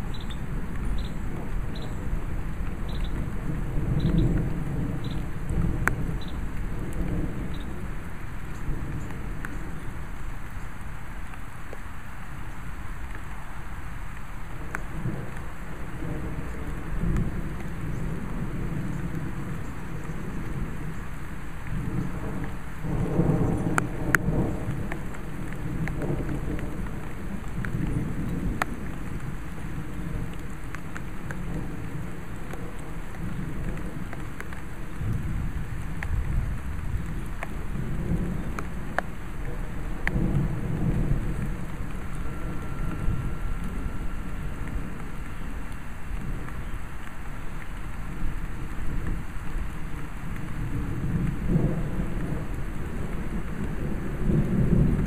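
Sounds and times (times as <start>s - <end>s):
rain hissing: 0.0s - 55.0s
thunder rumbling: 0.0s - 55.0s.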